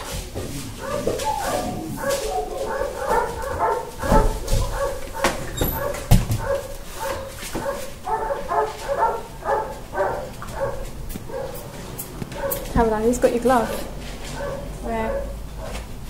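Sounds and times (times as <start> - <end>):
dogs barking and yipping: 0.0 - 15.9.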